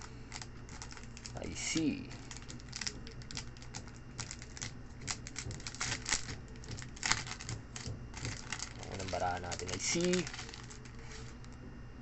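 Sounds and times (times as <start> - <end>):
plastic sleeve crinkling: 0.0 - 11.6.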